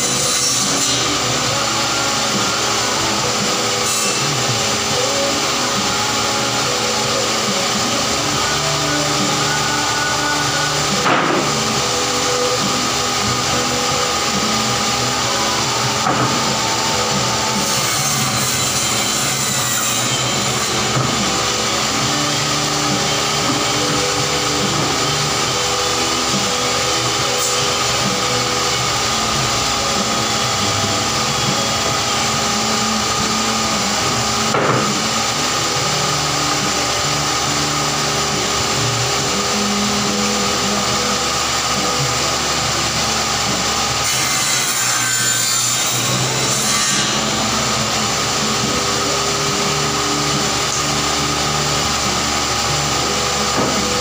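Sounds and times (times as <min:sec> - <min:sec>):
table saw cutting plywood: 0:00.0 - 0:54.0.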